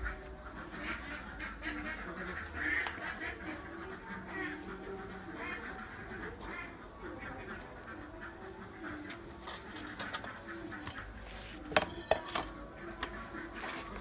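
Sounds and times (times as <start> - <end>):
ducks quacking: 0.0 - 11.8, 12.5 - 14.0.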